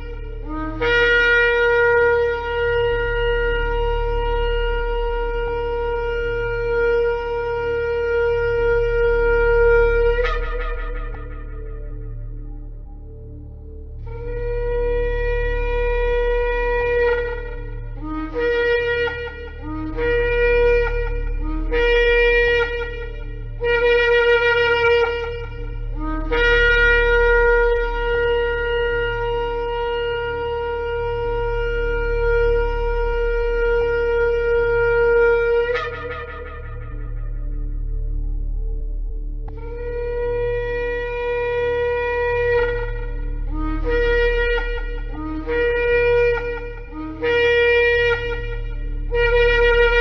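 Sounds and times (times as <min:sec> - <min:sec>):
shofar blasts: 0:00.0 - 0:50.0.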